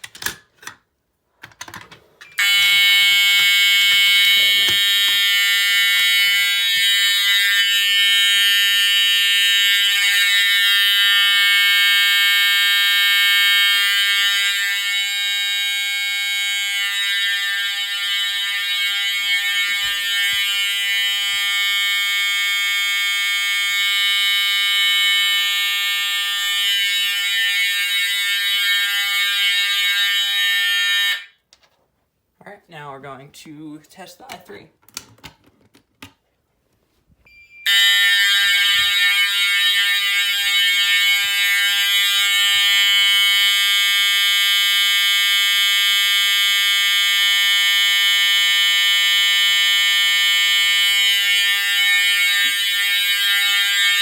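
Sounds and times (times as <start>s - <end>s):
fire alarm horn steady tone: 2.3s - 31.4s, 37.3s - 54.0s.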